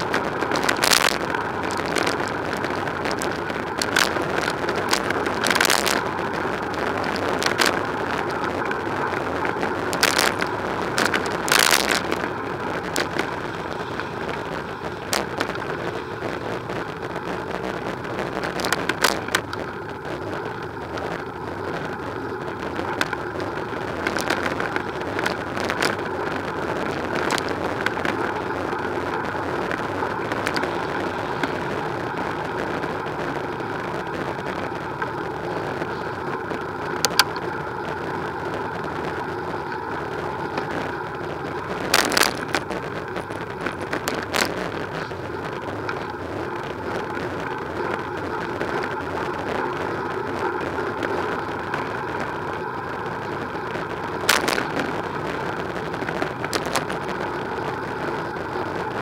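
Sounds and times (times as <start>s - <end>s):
tyre and wind noise: 0.0s - 59.0s.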